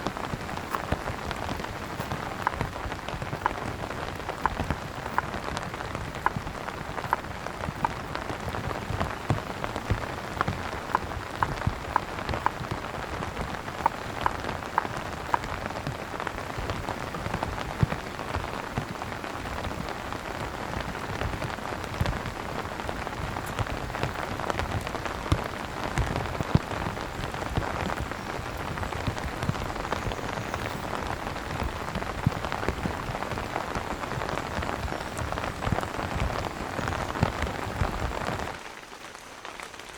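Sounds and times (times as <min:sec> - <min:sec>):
heavy rain on tent awning: 0:00.0 - 0:39.9.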